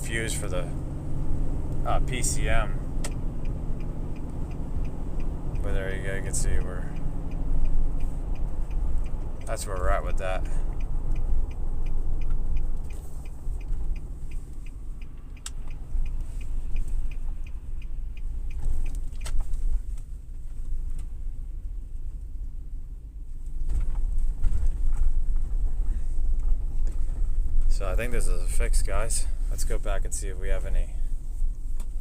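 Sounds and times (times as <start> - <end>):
light regular ticking: 0.0 - 21.2, 23.4 - 32.0
car engine rumble: 0.0 - 32.0
road noise: 0.0 - 32.0.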